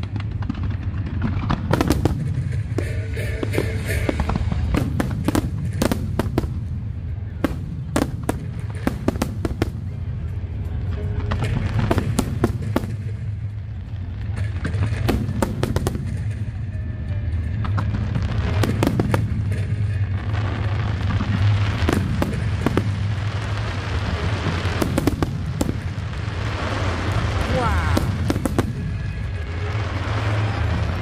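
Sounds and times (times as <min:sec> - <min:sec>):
aerial fireworks bursting: 0:00.0 - 0:16.7, 0:17.6 - 0:31.0
low rumble: 0:00.0 - 0:31.0.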